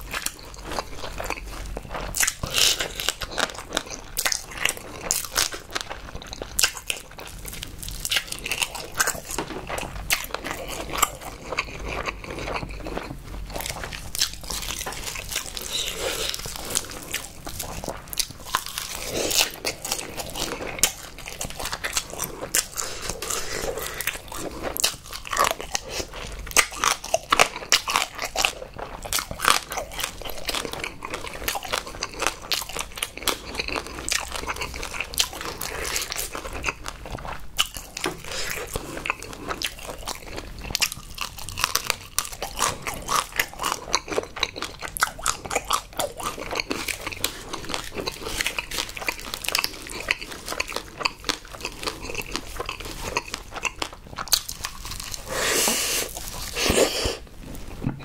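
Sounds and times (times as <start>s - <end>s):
crab shell crunching and cracking: 0.0s - 55.4s
wet chewing: 0.0s - 58.0s.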